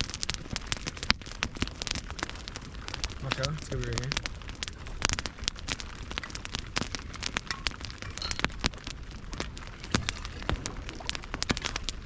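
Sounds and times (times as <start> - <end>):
campfire crackling and popping: 0.0 - 12.0
heavy rain on a tarp: 0.0 - 12.0.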